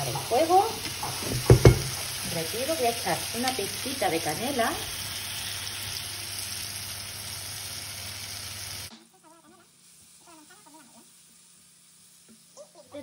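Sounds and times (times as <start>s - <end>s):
apples sizzling in frying pan: 0.0s - 13.0s.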